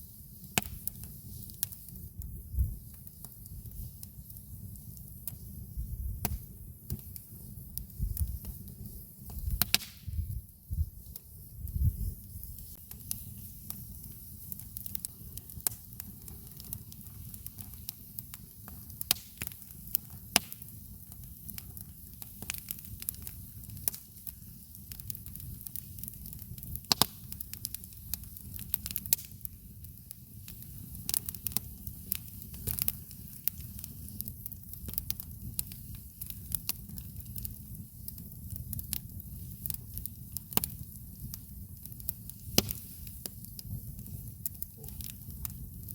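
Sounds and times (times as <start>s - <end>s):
campfire crackling and popping: 0.0s - 45.9s
low fire rumble: 0.0s - 45.9s.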